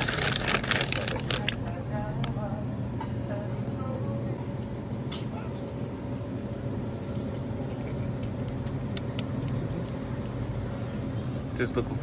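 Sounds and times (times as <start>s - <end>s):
supermarket background hum: 0.0s - 12.0s.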